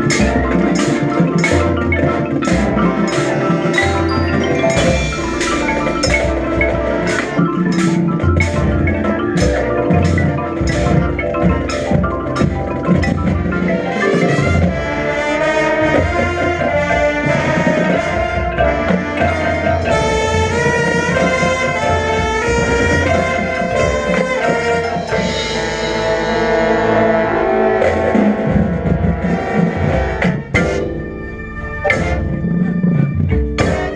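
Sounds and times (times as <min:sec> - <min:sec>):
marching band playing: 0:00.0 - 0:33.9
marimba and glockenspiel: 0:00.0 - 0:33.9.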